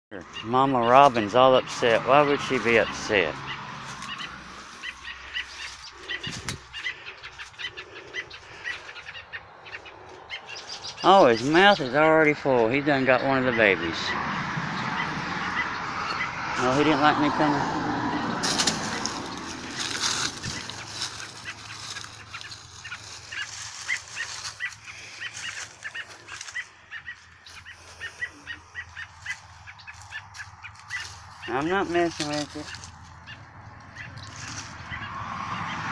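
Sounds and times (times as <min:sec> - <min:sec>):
bird sharp alarm calls: 0:00.1 - 0:17.3, 0:18.1 - 0:35.9
brush rustling: 0:00.2 - 0:13.7, 0:14.9 - 0:35.7.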